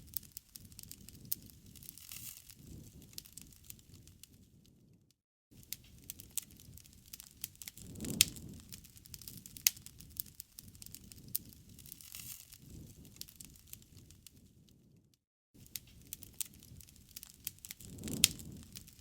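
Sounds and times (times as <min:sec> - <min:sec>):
campfire crackling and popping: 0:00.0 - 0:05.0, 0:05.6 - 0:15.0, 0:15.6 - 0:19.0
low rumble of flame: 0:00.0 - 0:19.0.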